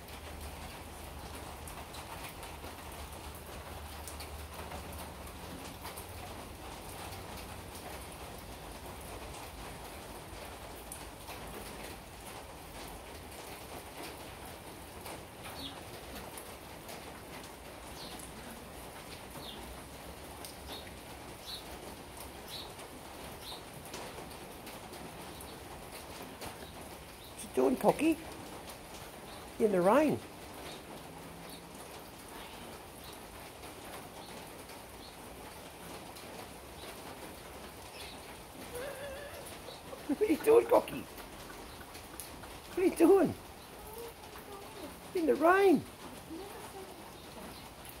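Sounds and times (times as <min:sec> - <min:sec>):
drips and splashes: 0:00.0 - 0:48.0
rain on wet paving: 0:00.0 - 0:48.0.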